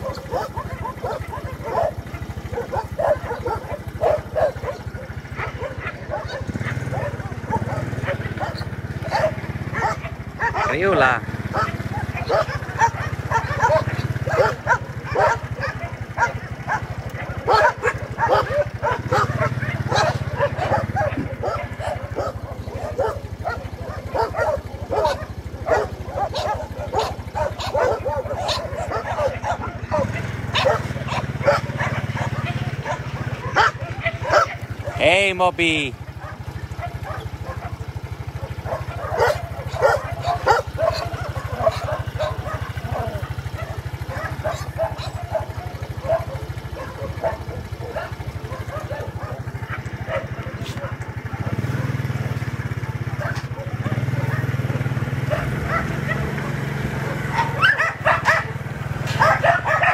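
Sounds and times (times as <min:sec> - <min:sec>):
engine running: 0:00.0 - 0:59.9
many dogs barking and yelping: 0:00.0 - 0:59.9.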